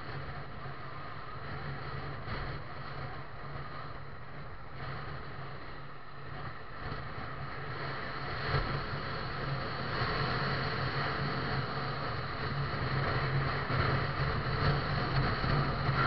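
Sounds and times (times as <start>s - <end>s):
wind noise: 0.0s - 16.0s.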